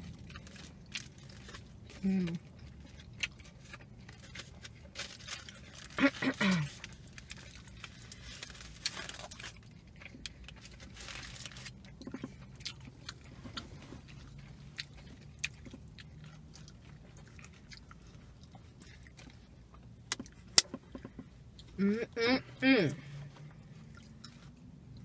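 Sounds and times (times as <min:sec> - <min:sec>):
chewing and biting food: 0:00.0 - 0:06.0, 0:06.7 - 0:21.8.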